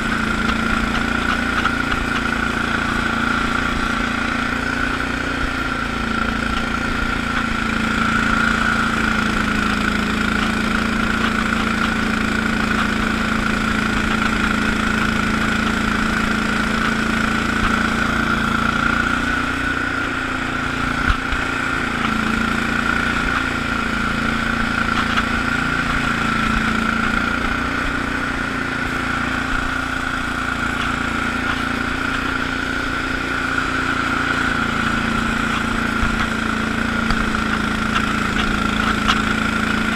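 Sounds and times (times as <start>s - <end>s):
garden tractor engine running: 0.0s - 39.9s
high whine of rotary broom: 0.0s - 39.9s.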